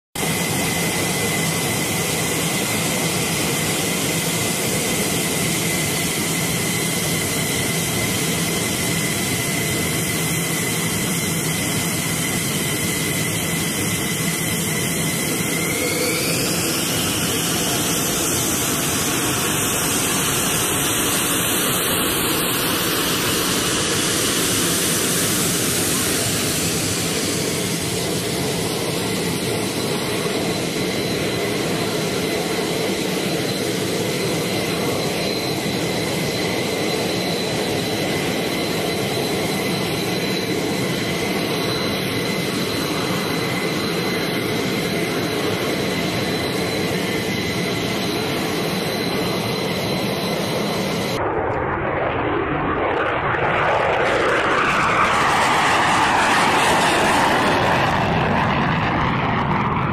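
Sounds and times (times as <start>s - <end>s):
jet engines roaring with whine: 0.1s - 59.9s.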